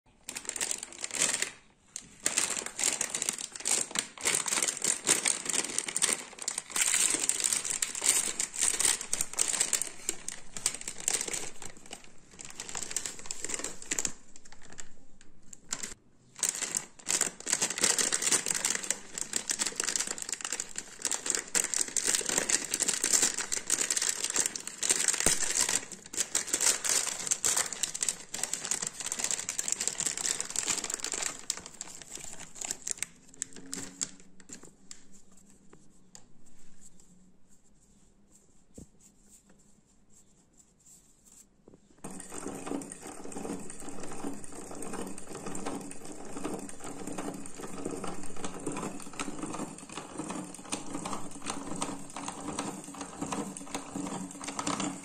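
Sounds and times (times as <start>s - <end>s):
plastic bags crinkling: 0.1s - 35.6s, 42.0s - 55.0s.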